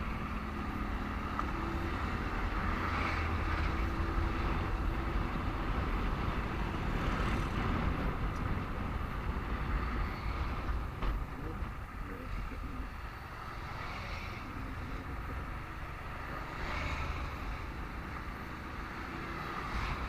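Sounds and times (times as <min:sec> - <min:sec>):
passing vehicle hum: 0:00.0 - 0:20.0.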